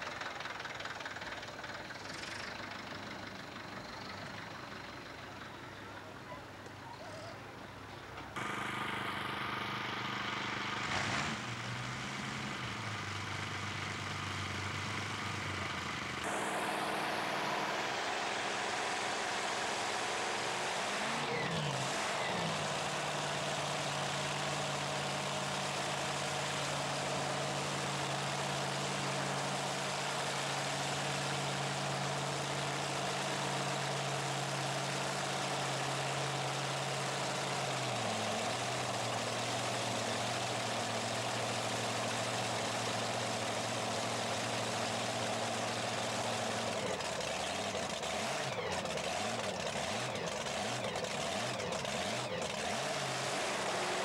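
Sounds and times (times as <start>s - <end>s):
tractor engines idling: 0.0s - 54.0s.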